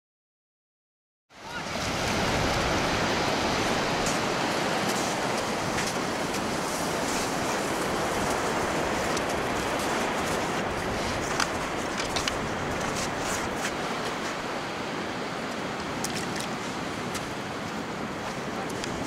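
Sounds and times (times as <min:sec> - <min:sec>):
surf on a sandy beach: 0:01.3 - 0:19.0.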